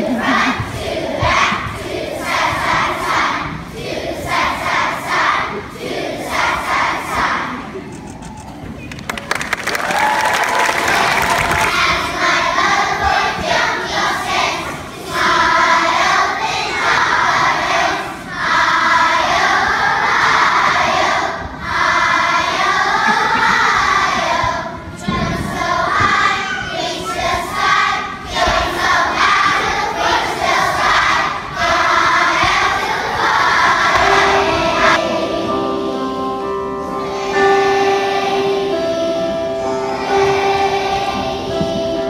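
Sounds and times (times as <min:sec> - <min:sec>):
children's choir singing: 0:00.0 - 0:08.0, 0:10.4 - 0:42.0.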